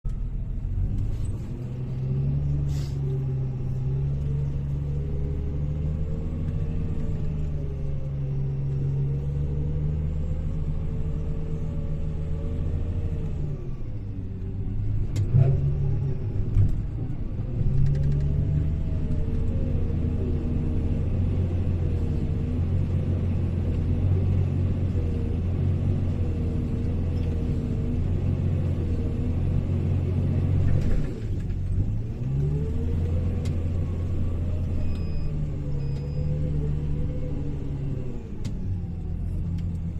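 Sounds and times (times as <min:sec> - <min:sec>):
wheel loader diesel engine: 0:00.1 - 0:39.9.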